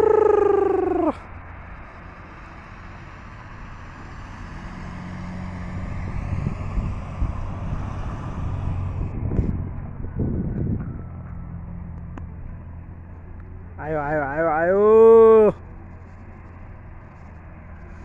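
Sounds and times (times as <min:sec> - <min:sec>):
bus engine passing by: 0:00.0 - 0:18.0.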